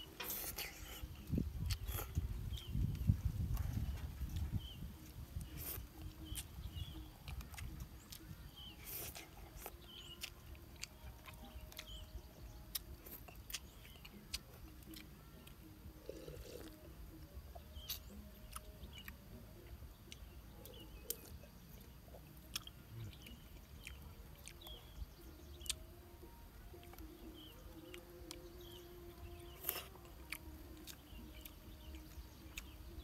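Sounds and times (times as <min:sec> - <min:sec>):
chewing noodles: 0:00.0 - 0:33.0.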